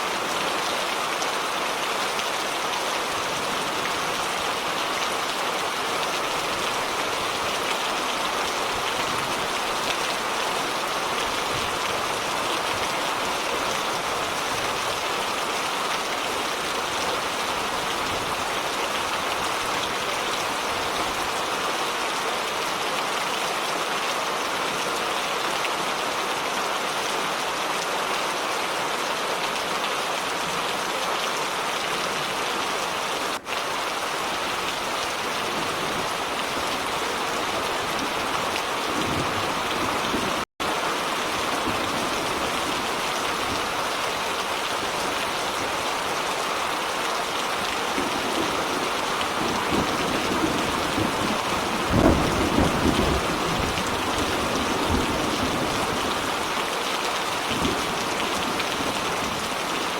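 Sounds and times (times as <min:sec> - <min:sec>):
rain pouring and pattering: 0:00.0 - 0:59.9.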